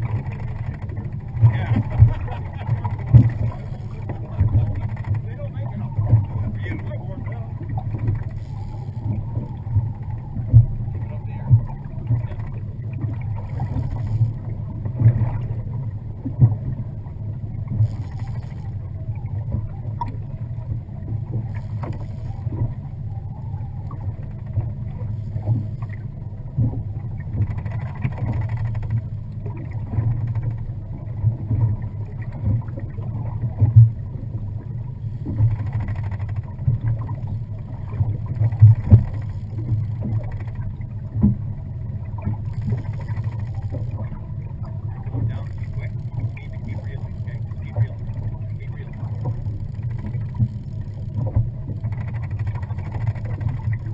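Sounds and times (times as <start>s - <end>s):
boat motor humming: 0.0s - 53.9s.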